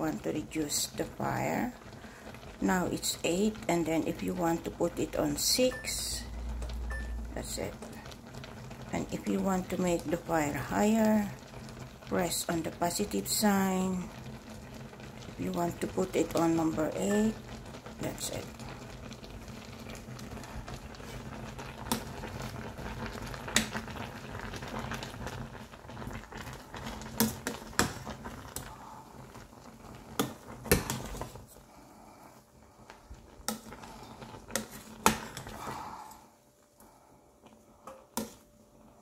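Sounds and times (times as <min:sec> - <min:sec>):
apples bubbling in saucepan: 0:00.0 - 0:39.0.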